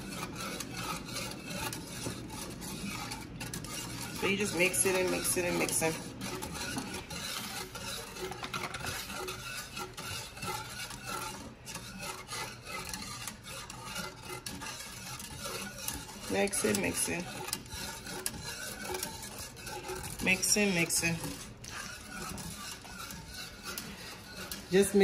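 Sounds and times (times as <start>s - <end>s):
whisk scraping metal pot: 0.0s - 25.0s.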